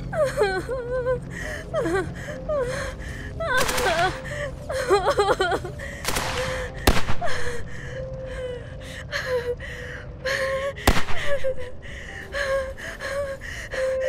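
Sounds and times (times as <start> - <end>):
person sobbing: 0.0 - 14.0.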